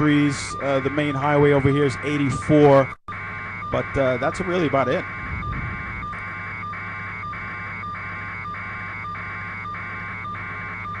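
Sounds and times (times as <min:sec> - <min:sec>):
pulsing electronic buzzing tone: 0:00.0 - 0:11.0
steady low hum: 0:00.0 - 0:11.0.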